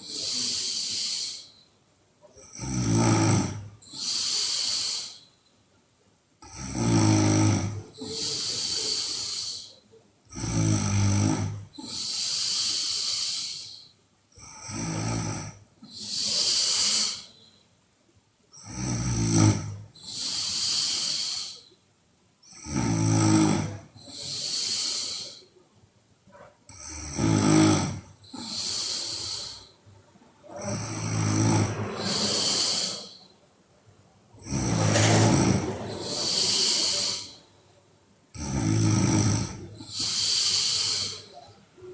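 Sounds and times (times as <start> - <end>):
woman snoring: 0.0 - 1.6, 2.4 - 5.3, 6.4 - 17.4, 18.6 - 21.7, 22.5 - 25.5, 26.7 - 29.8, 30.4 - 33.3, 34.4 - 37.4, 38.3 - 41.5.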